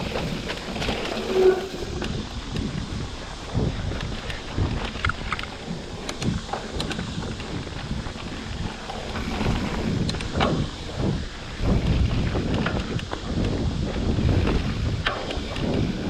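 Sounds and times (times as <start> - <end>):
rumble of bike tyres: 0.0 - 16.0
wind buffeting microphone: 0.0 - 16.0
bike clicks and knocks: 1.9 - 11.1, 11.7 - 16.0.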